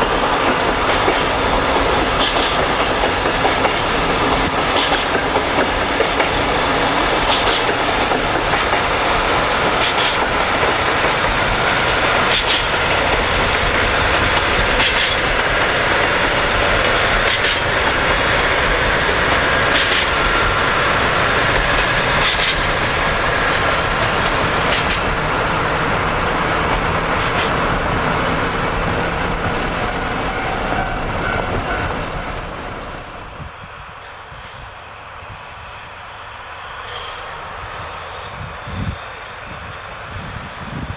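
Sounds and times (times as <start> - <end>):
wheels clacking over rail joints: 0.0 - 34.2
train wagons rumbling: 0.0 - 35.4.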